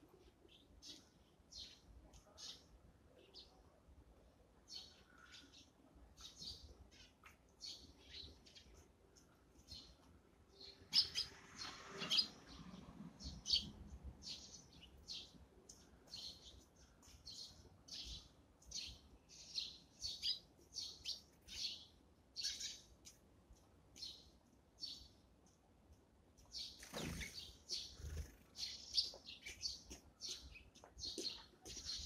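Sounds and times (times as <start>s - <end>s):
sparrows chirping: 0.0s - 3.8s, 4.4s - 23.3s, 23.9s - 25.6s, 26.4s - 32.0s.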